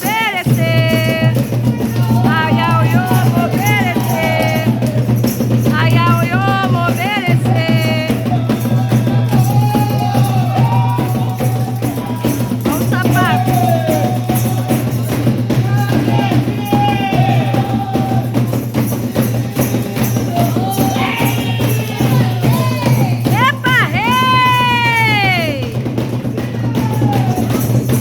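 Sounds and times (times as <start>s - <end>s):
hand drums beating: 0.0s - 28.0s
percussion accent: 0.0s - 28.0s
voices singing: 0.0s - 28.0s.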